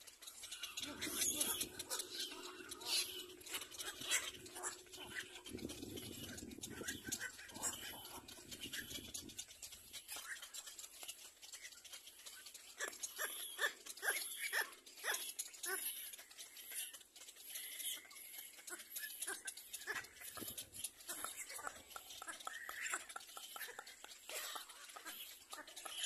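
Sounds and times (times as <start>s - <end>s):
chicks squawking: 0.0s - 26.0s.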